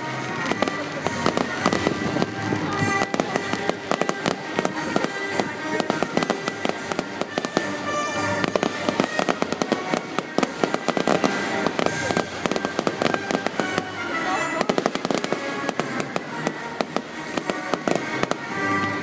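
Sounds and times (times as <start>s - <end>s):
fireworks crackling and banging: 0.0s - 19.0s
music over public address system: 0.0s - 19.0s.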